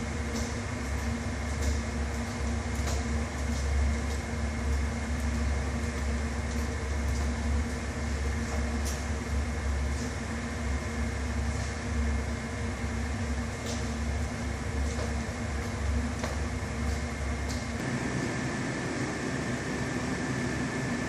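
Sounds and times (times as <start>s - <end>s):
low machinery hum: 0.0s - 21.0s.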